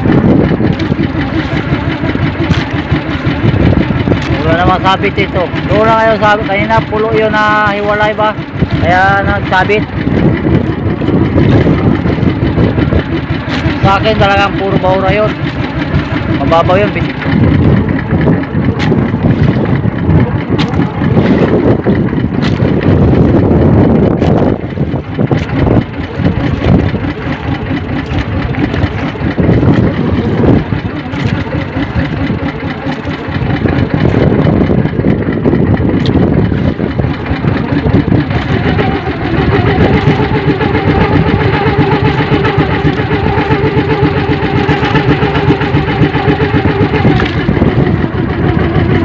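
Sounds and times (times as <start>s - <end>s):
wind rushing: 0.0s - 32.5s, 33.2s - 49.0s
boat engine humming: 0.0s - 49.0s
water rushing: 0.0s - 49.0s.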